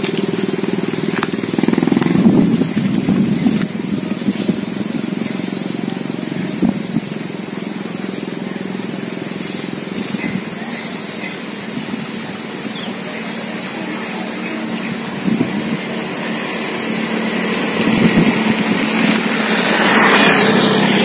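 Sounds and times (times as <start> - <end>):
kite hummer droning in wind: 0.0 - 21.0.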